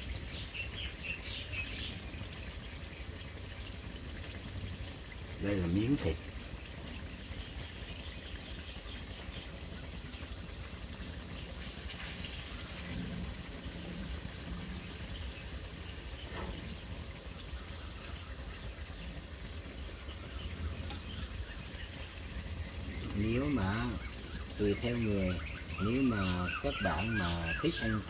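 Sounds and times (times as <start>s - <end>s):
meat sizzling in a wok: 0.0s - 28.0s.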